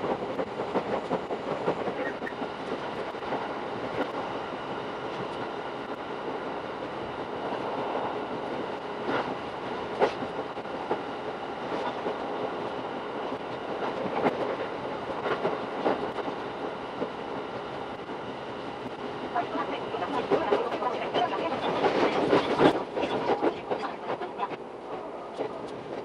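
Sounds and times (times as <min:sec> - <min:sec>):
train wheels rushing on rail: 0:00.0 - 0:26.0.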